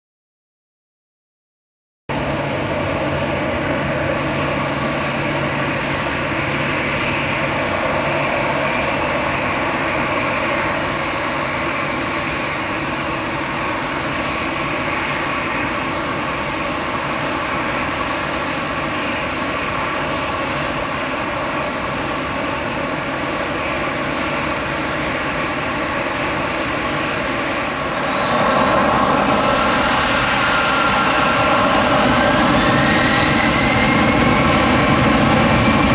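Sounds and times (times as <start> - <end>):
jet engines whining: 2.1 - 35.9.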